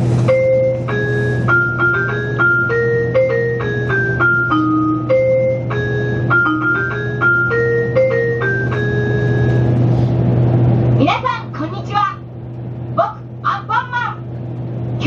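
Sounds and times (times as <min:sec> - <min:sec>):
low hum in train car: 0:00.0 - 0:15.0.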